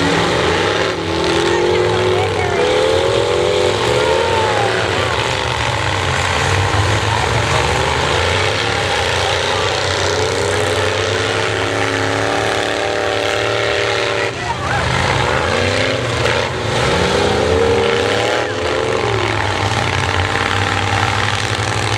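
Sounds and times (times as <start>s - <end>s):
car engines revving: 0.0s - 21.9s.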